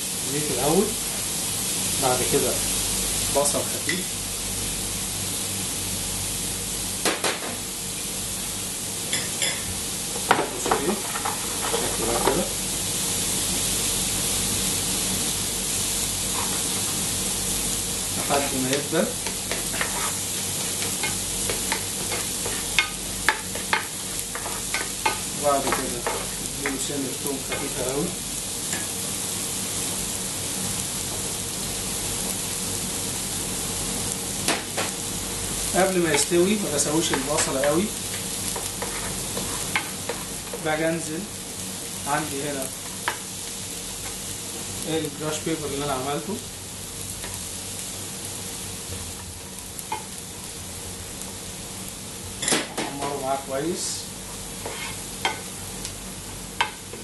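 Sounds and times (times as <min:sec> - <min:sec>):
onion sizzling in oil: 0:00.0 - 0:57.0.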